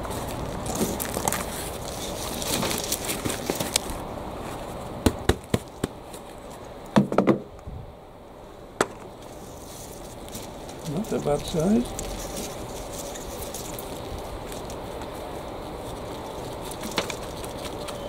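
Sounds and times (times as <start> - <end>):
compost and leaves rustling: 0.0 - 7.0, 7.7 - 18.0.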